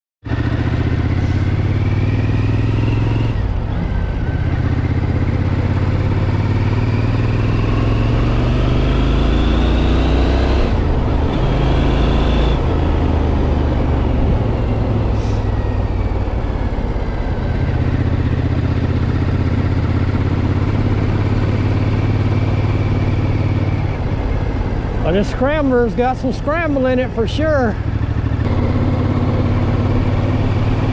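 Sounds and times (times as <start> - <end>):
motorcycle engine accelerating: 0.2 - 30.9.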